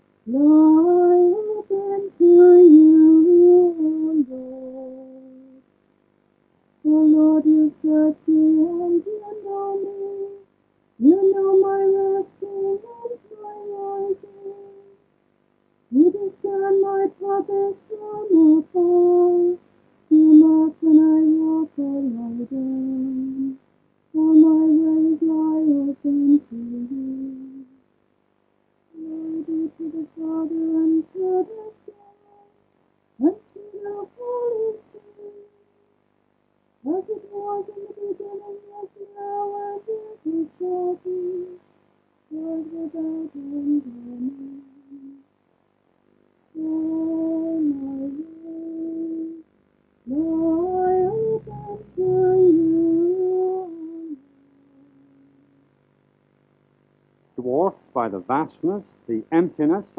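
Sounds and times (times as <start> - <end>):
woman singing unaccompanied: 0.2 - 5.7, 6.8 - 15.0, 15.9 - 27.8, 28.9 - 32.6, 33.2 - 35.7, 36.8 - 41.7, 42.3 - 45.3, 46.5 - 55.8.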